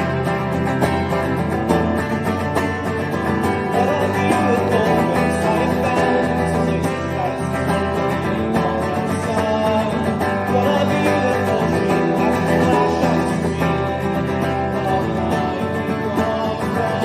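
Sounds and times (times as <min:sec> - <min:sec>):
strummed acoustic guitar song: 0:00.0 - 0:17.0.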